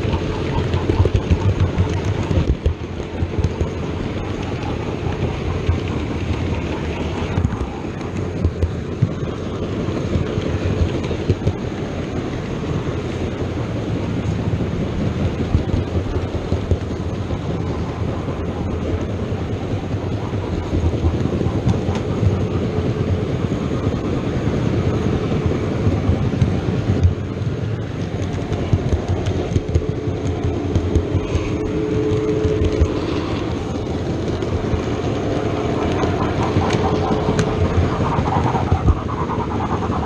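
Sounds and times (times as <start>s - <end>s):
model train rolling on track: 0.0s - 40.0s.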